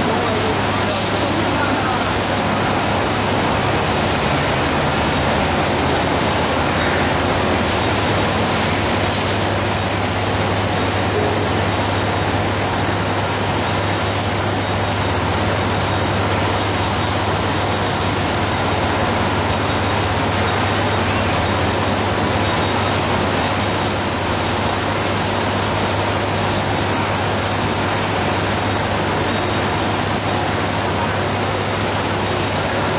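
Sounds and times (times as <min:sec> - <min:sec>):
low machinery hum: 0:00.0 - 0:30.8
loud machinery hiss: 0:00.0 - 0:32.9.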